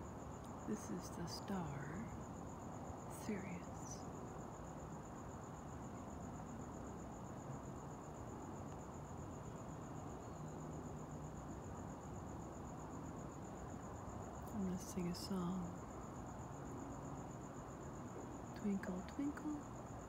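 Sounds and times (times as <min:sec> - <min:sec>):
crickets chirping: 0:00.0 - 0:20.0
faint low background hiss: 0:00.0 - 0:20.0.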